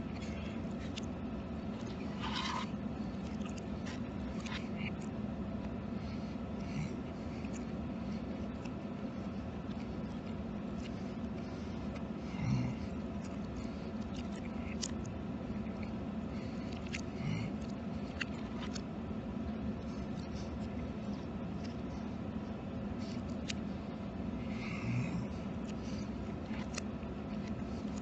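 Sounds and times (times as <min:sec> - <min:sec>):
reversed eating clicks and smacks: 0:00.0 - 0:28.0
steady low hum: 0:00.0 - 0:28.0.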